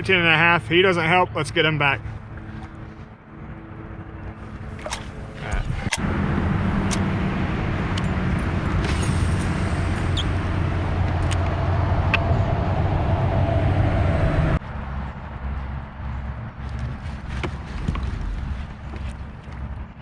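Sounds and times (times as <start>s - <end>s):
engine drone: 2.0s - 20.0s
gusty wind noise: 2.0s - 20.0s
wind rumble: 2.2s - 20.0s.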